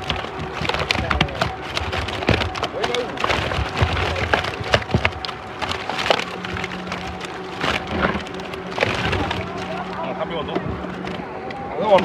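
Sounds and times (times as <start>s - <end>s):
fish flapping in a net: 0.0s - 12.0s
low steady hum: 0.0s - 12.0s.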